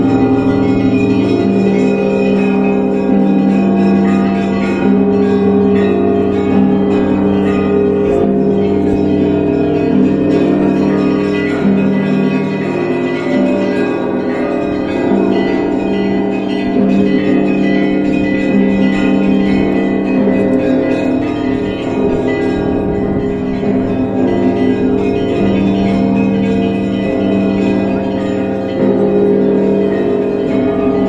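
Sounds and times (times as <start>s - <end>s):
heavy bell tolling: 0.0s - 31.0s
high church bells ringing: 0.0s - 31.0s.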